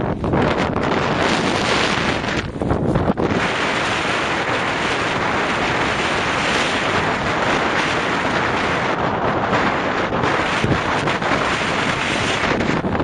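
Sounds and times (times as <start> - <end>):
strong wind on microphone: 0.0 - 13.0
surf breaking on beach: 0.2 - 13.0.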